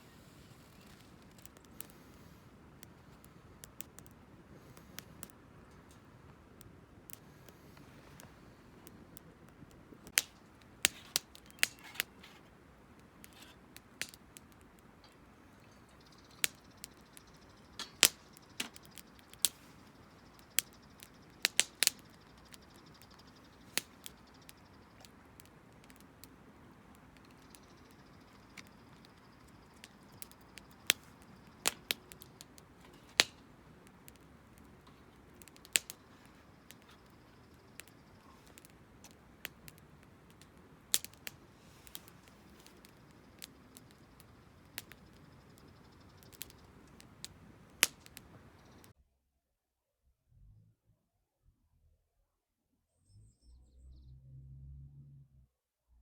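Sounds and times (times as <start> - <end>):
firewood crackling and popping: 0.0 - 49.0.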